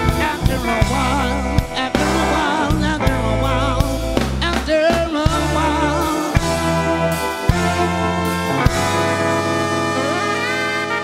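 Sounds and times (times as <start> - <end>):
live soul band playing: 0.0 - 11.0.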